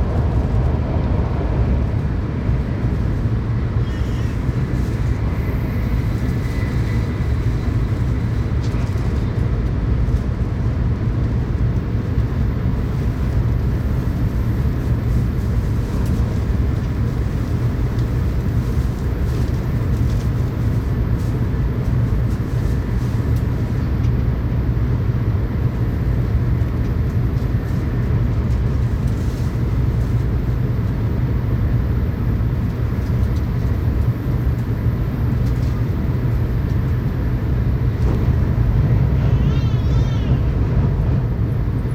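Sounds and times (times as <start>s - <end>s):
train rumbling from inside: 0.0s - 41.9s.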